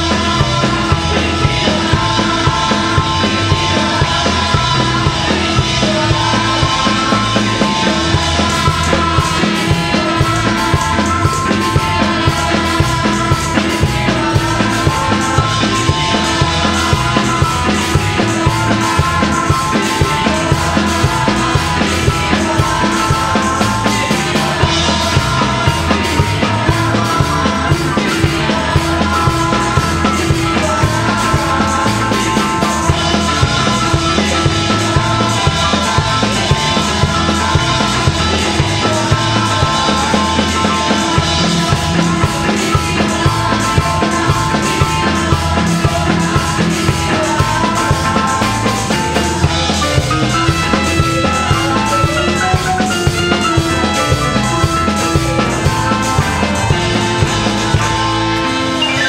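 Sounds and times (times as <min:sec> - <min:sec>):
women singing into microphones: 0:00.0 - 0:57.8
amplified band with steady beat: 0:00.0 - 0:59.0.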